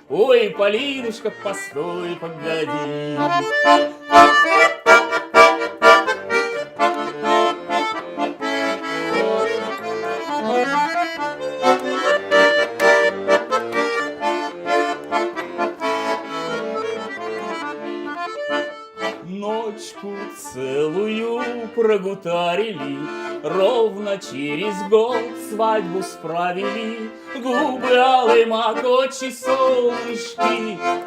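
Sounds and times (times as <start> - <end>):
button accordion playing: 0.0 - 31.0.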